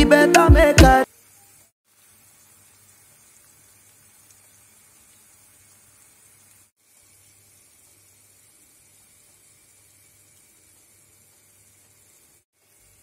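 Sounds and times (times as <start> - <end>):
vegetables sizzling in a pan: 1.0 - 13.0.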